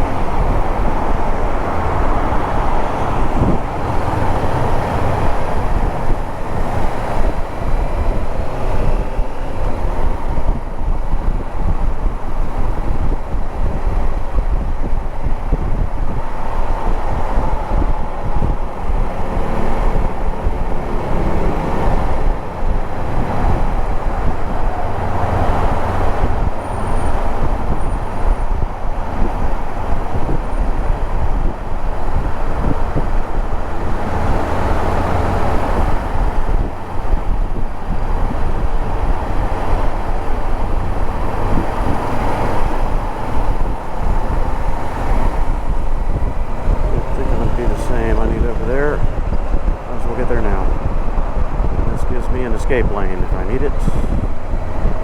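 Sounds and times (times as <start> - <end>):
highway traffic: 0.0 - 55.0
wind and road noise: 0.0 - 55.0.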